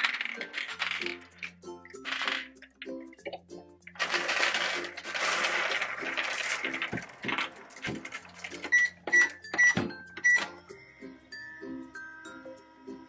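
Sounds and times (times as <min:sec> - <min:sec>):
plastic clattering: 0:00.0 - 0:10.5.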